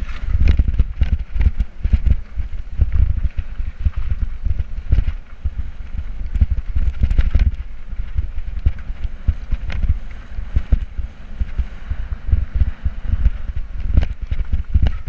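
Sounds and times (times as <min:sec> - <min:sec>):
bike knocking and rattling: 0:00.0 - 0:15.0
wind rumbling on microphone: 0:00.0 - 0:15.0.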